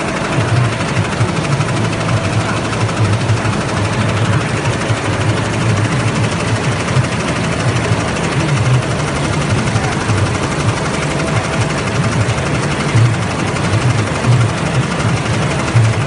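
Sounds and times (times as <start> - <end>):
embroidery machine clattering: 0.0 - 16.0.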